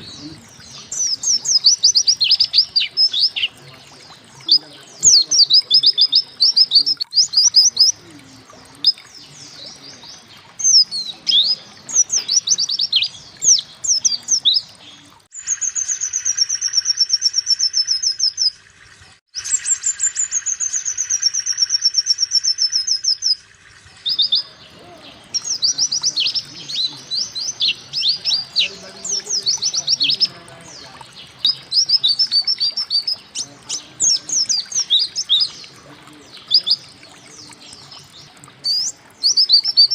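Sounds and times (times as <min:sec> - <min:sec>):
bird trills: 0:00.0 - 0:18.6, 0:19.4 - 0:39.9
bird chirping: 0:00.0 - 0:39.9.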